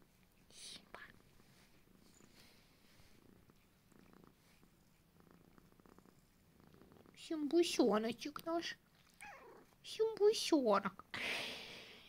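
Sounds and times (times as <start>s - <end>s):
cat purring: 0.0s - 10.4s.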